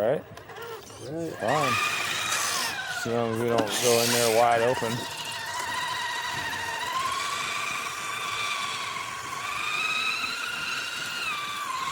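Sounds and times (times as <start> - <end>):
electric motor whining: 0.0 - 11.9.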